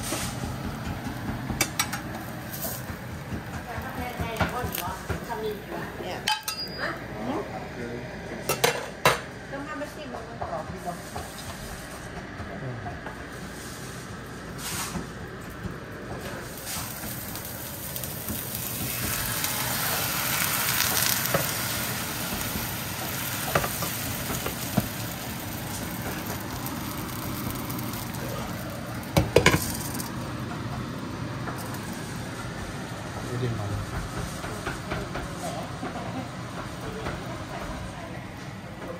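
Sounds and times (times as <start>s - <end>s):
batter sizzling in frying pan: 0.0s - 7.6s, 13.3s - 38.9s.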